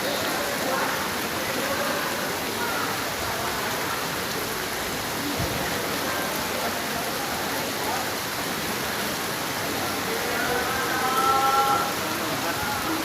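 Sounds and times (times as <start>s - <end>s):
rushing falling water: 0.0s - 13.0s.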